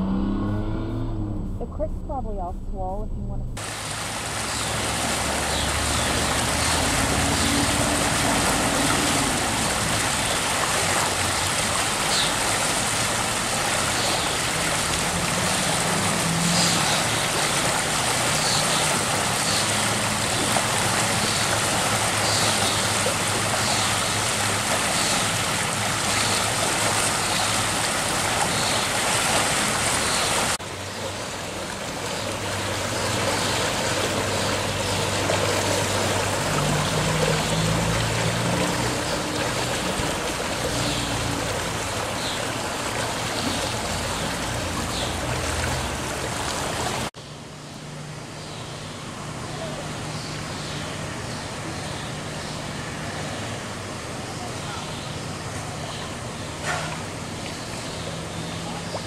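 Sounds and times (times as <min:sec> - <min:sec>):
floodwater rushing: 0:03.6 - 0:47.2, 0:49.1 - 0:59.0.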